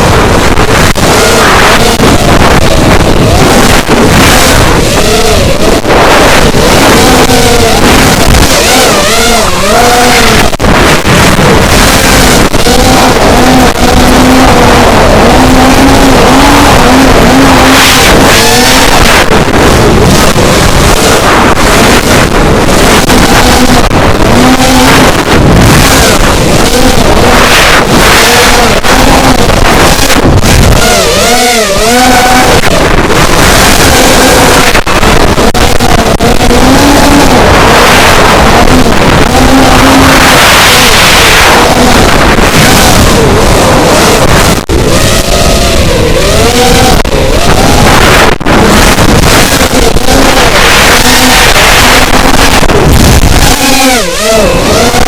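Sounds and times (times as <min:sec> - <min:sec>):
quadcopter motors buzzing: 0:00.0 - 0:55.0
wind rush on microphone: 0:00.0 - 0:55.0.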